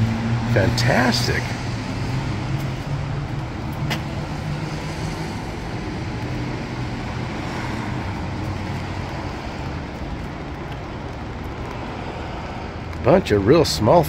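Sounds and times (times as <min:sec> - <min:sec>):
traffic hiss on wet street: 0:00.0 - 0:14.0.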